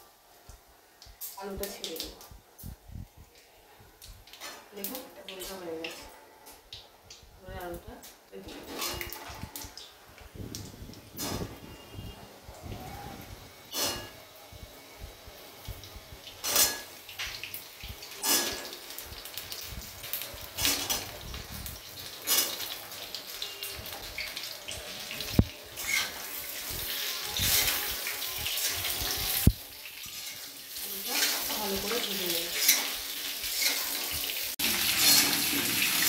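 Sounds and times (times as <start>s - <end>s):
potatoes sizzling in hot oil: 4.2s - 5.9s, 7.4s - 36.0s.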